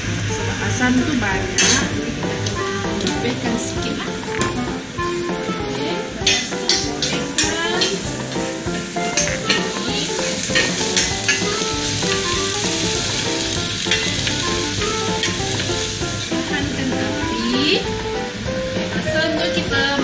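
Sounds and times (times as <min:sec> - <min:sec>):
onions sizzling in hot oil: 0:00.0 - 0:20.0
metal spatula scraping wok: 0:01.5 - 0:17.9.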